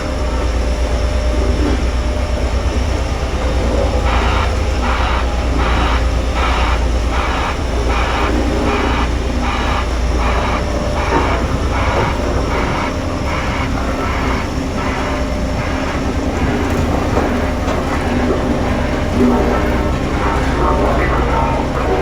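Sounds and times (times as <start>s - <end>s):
diesel engine running: 0.0s - 22.0s
rhythmic swishing pulse: 0.0s - 22.0s.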